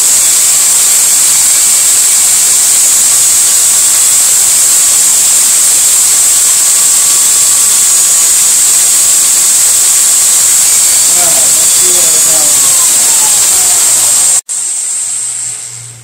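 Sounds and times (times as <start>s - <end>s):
electric drill running: 0.0s - 16.0s
hiss of valve cleaning: 0.0s - 16.0s.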